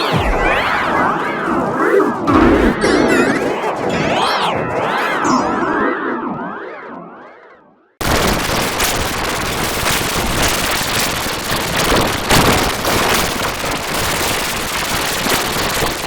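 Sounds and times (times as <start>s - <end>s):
loud dense crackling noise: 0.0s - 16.0s.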